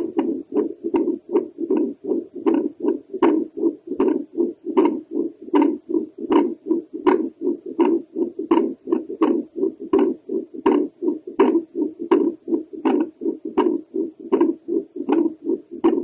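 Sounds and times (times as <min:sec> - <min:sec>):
ultrasound heartbeat whooshing pulses: 0:00.0 - 0:16.0.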